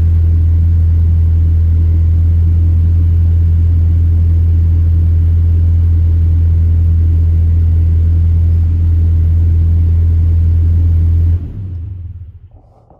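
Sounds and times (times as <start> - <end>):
engine exhaust drone: 0.0 - 12.9.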